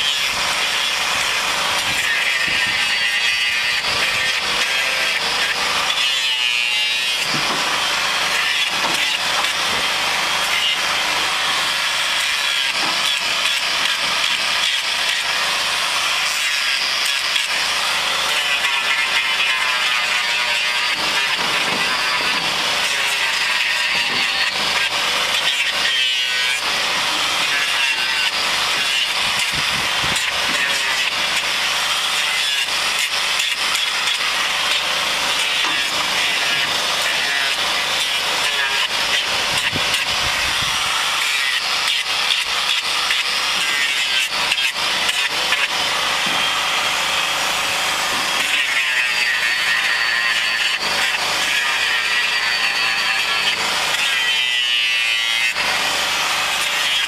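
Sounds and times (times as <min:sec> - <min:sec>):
grinder grinding hoof: 0:00.0 - 0:57.0.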